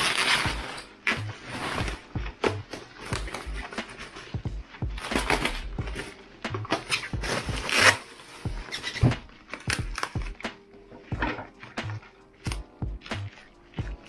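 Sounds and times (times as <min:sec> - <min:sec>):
bubble wrap crinkling: 0:00.0 - 0:14.0
quiet background music: 0:00.0 - 0:14.0.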